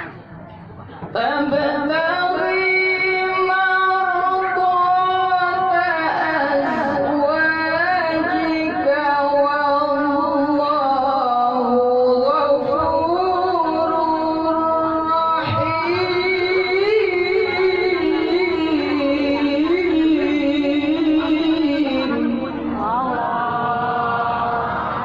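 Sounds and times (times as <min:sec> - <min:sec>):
man chanting recitation: 0:01.2 - 0:25.0.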